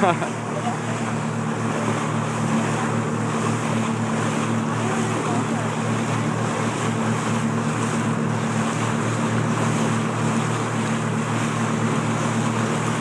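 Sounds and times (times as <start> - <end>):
motorboat engine hum: 0.0 - 13.0
water rushing past hull: 0.0 - 13.0.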